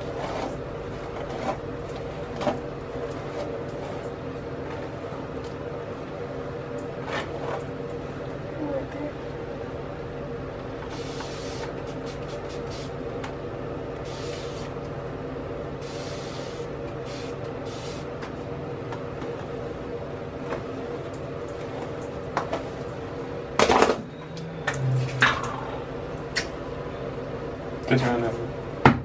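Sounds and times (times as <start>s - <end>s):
steady hum: 0.0s - 28.9s.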